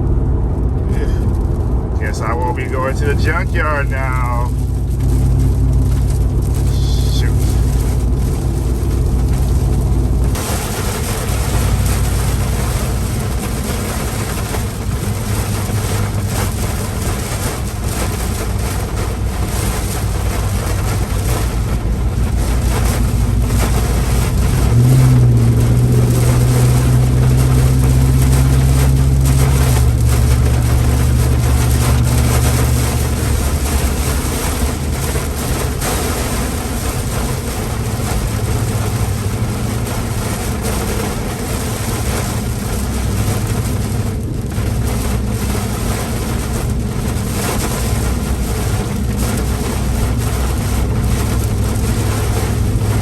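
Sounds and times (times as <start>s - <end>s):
heavy rain and wet road hiss: 0.0s - 53.0s
vehicle engine droning: 0.0s - 53.0s.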